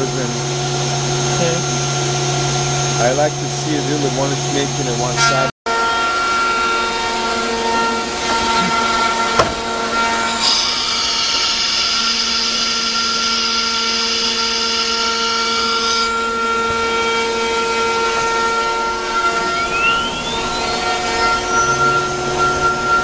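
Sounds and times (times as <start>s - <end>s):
machine noise: 0.0s - 23.0s
router spindle whine: 0.0s - 23.0s.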